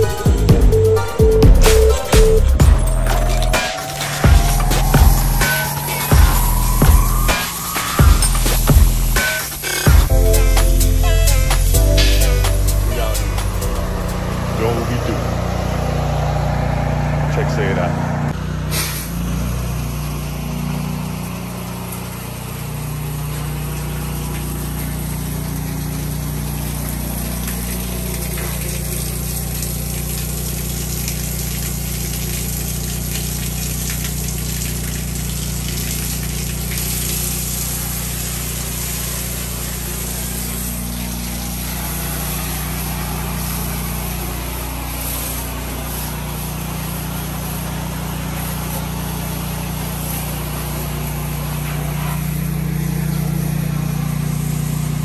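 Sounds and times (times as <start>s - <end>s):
pressure washer engine humming: 0.0s - 55.0s
hiss of water jet spraying: 2.9s - 14.5s, 18.7s - 19.2s, 21.3s - 55.0s.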